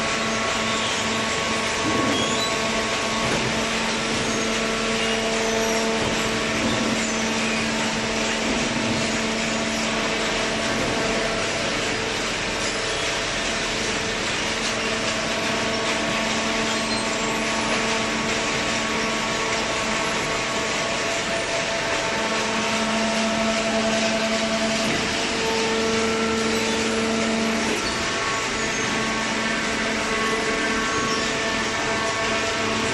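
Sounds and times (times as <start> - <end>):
hydraulic power unit running: 0.0 - 32.9.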